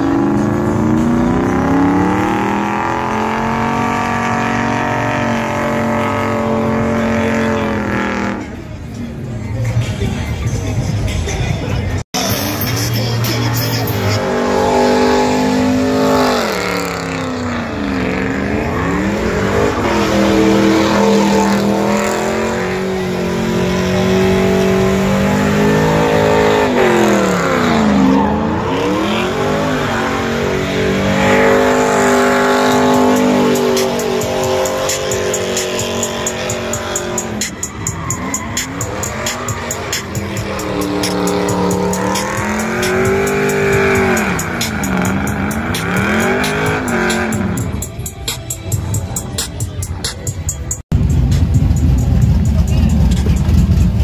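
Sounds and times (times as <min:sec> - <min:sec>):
tires squealing: 0:00.0 - 0:54.0
truck engine revving: 0:00.0 - 0:54.0.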